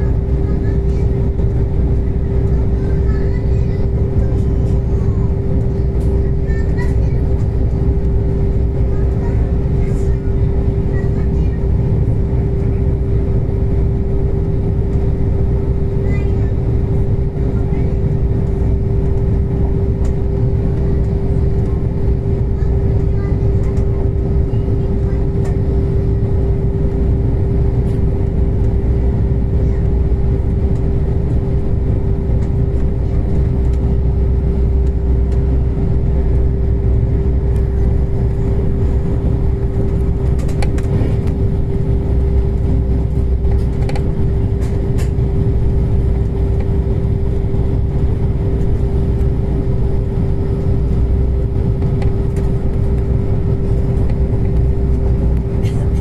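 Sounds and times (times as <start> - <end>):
constant hum: 0.0 - 56.0
train rumble inside carriage: 0.0 - 56.0.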